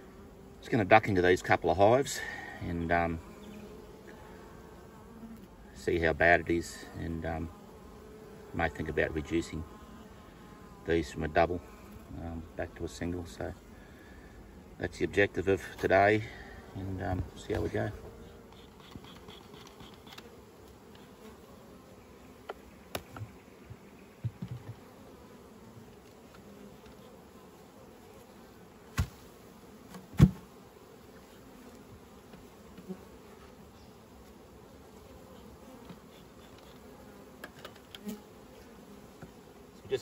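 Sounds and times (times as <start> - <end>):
bees buzzing: 0.0 - 40.0.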